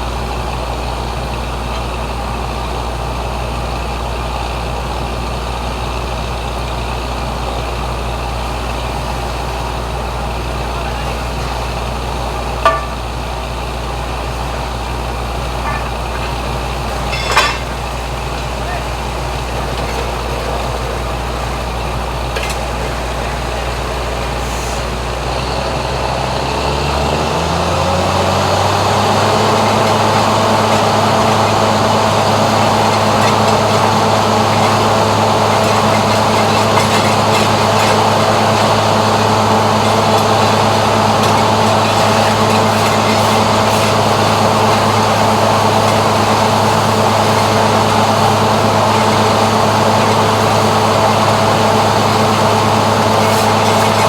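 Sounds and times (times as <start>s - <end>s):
heavy machine engine revving: 2.3s - 54.0s.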